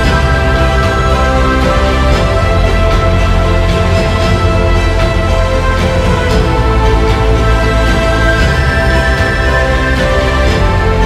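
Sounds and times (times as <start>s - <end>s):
background music sustained notes: 0.0s - 11.0s.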